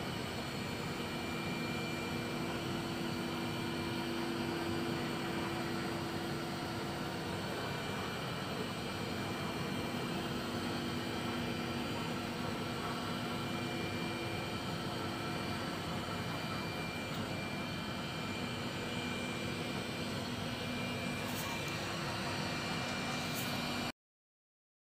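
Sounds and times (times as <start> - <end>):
suction fan whirring: 0.0 - 23.9.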